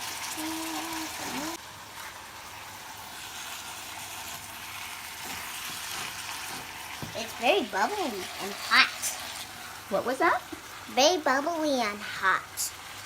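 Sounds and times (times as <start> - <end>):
beef sizzling in a pot: 0.0 - 13.0.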